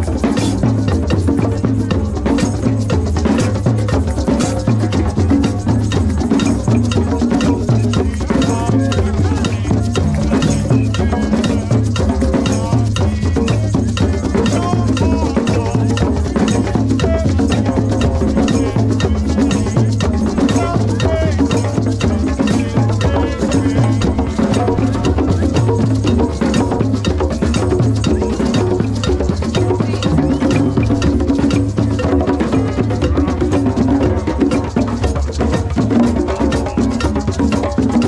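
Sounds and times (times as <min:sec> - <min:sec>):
hand drums: 0:00.0 - 0:38.0
hand shakers: 0:00.0 - 0:38.0.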